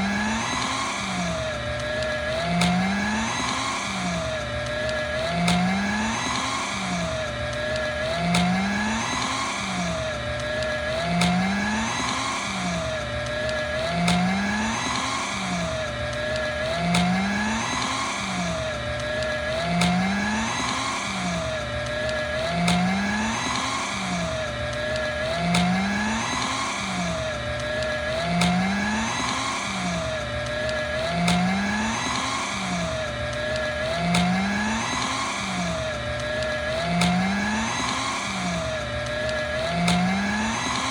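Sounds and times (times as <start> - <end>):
paper shredder shredding paper: 0.0 - 40.9.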